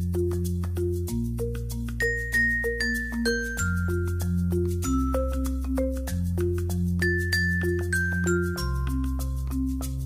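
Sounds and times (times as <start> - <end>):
music with bright struck notes: 0.0 - 10.0.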